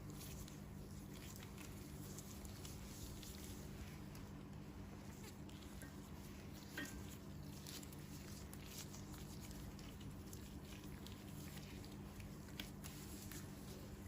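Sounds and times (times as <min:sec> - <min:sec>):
soft handling ticks and rustles: 0:00.0 - 0:14.0
steady low hum: 0:00.0 - 0:14.0.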